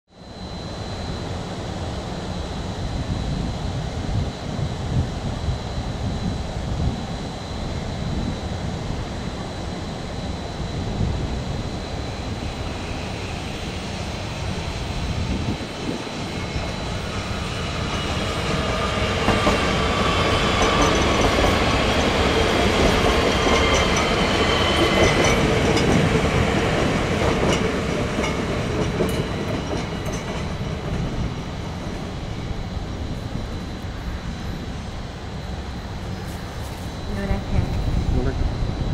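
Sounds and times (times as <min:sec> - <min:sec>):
train whine: 0:00.1 - 0:38.9
train rolling past on rails: 0:00.2 - 0:38.9.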